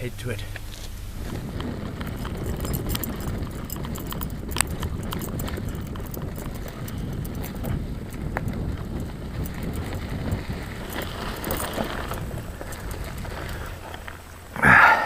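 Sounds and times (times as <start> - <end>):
tyres rumbling on dirt: 0.0 - 15.0
wind buffeting microphone: 0.0 - 15.0
bike clicks and rattles: 0.6 - 14.6.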